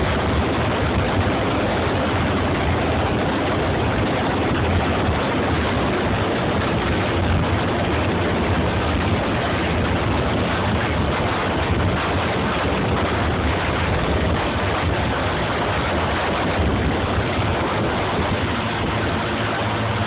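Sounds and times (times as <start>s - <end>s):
helicopter rotor and turbine: 0.0s - 20.0s.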